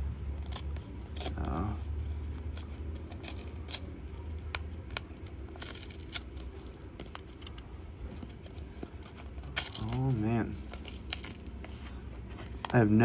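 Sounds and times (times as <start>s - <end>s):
paper wrapper crackling: 0.0s - 13.0s.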